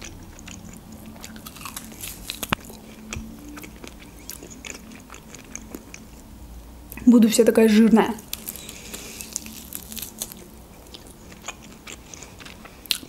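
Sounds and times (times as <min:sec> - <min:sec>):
chewing meat off rib bone: 0:00.0 - 0:06.2, 0:08.3 - 0:13.0.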